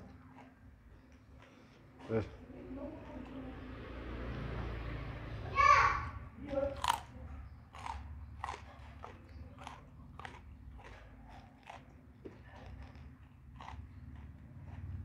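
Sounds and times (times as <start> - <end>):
crunchy chewing: 0.0 - 3.8, 6.5 - 15.0.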